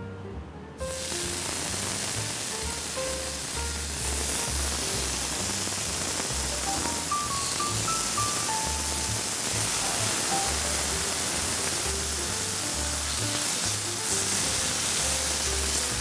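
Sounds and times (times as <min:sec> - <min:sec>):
background music: 0:00.0 - 0:16.0
bacon sizzling in a frying pan: 0:00.9 - 0:16.0.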